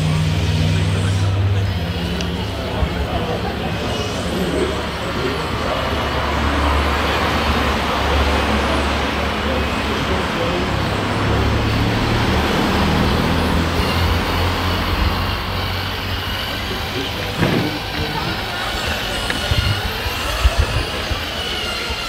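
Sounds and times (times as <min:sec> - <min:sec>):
toy tractor motor drone: 0:00.2 - 0:22.0.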